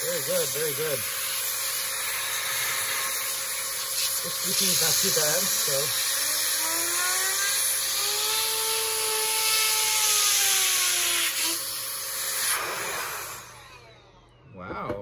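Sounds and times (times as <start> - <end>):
electric air duster blowing: 0.0 - 14.2.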